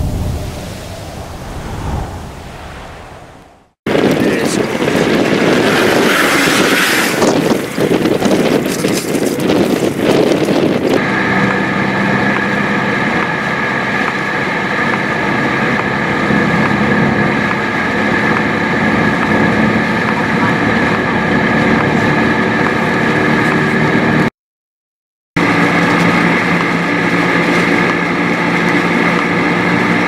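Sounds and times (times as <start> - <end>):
gusty wind buffeting microphone: 0.0 - 24.3
vehicle cabin droning hum: 3.9 - 24.3, 25.4 - 30.0.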